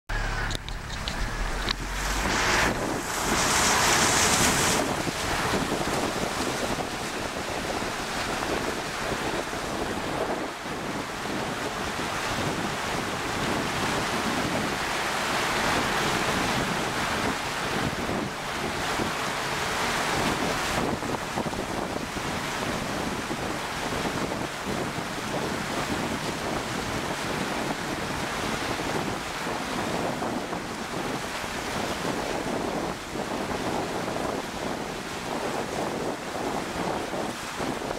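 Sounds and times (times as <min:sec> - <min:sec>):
water rushing and splashing: 0:00.1 - 0:37.9
wind buffeting microphone: 0:00.1 - 0:37.9.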